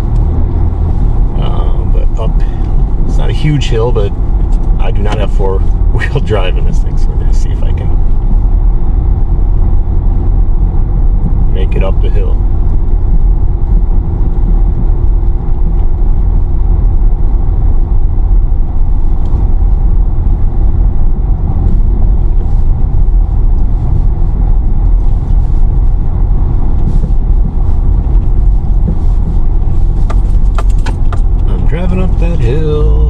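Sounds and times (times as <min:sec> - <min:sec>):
vehicle engine under load: 0:00.0 - 0:33.0.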